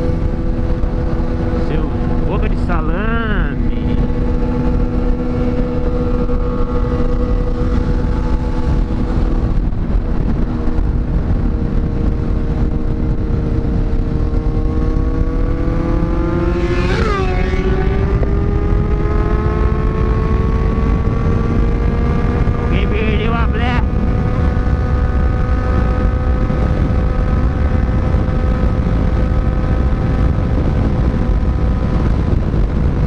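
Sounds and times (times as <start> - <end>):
motorcycle engine cruising: 0.0 - 33.0.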